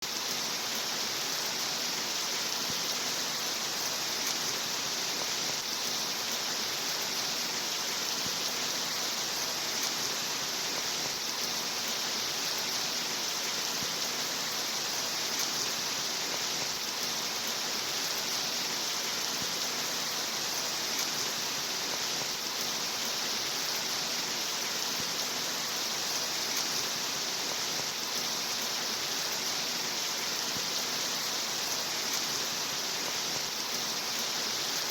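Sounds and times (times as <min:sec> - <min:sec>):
rain hissing: 0:00.0 - 0:34.9.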